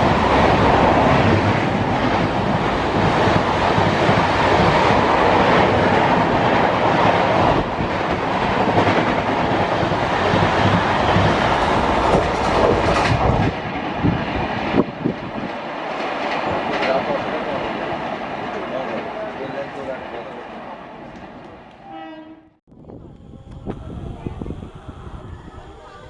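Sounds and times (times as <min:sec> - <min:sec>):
wheels clacking over rail joints: 0:00.0 - 0:13.8, 0:14.7 - 0:21.8
train rushing past: 0:00.0 - 0:22.3.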